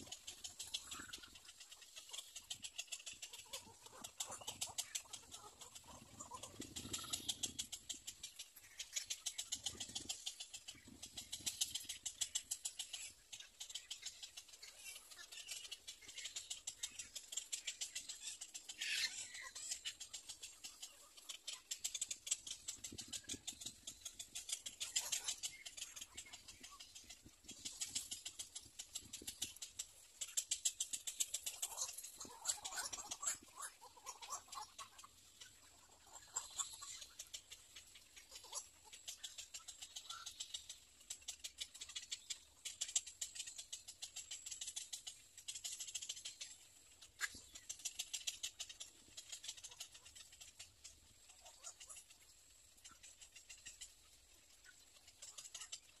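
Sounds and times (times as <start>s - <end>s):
bird chicks ticking chatter: 0.0s - 56.0s.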